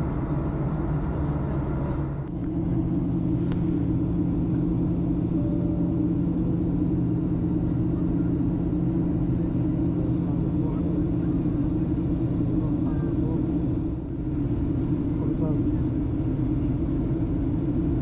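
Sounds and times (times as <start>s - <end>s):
airplane cabin drone: 0.0s - 18.0s
constant low hum: 0.0s - 18.0s.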